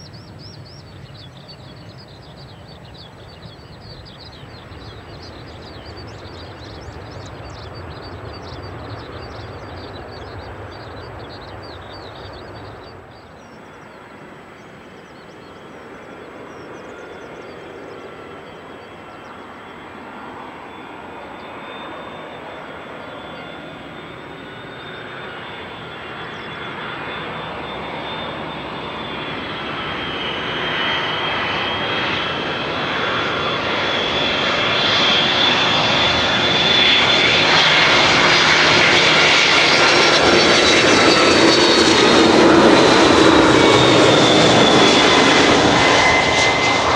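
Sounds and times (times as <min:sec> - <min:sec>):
jet engine high whine: 0:00.0 - 0:46.9
low rumble of landed jet: 0:00.0 - 0:46.9.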